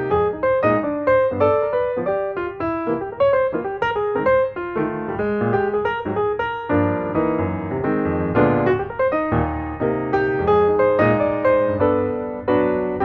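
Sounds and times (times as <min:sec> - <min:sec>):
piano playing a light melody: 0:00.0 - 0:13.0.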